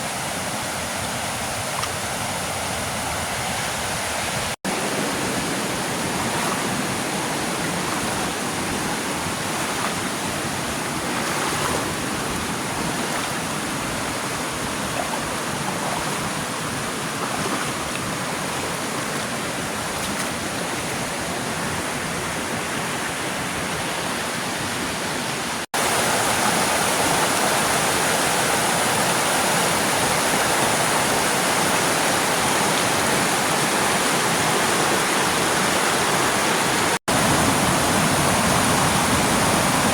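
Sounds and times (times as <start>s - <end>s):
waterfall rushing: 0.0s - 23.5s, 24.1s - 39.9s.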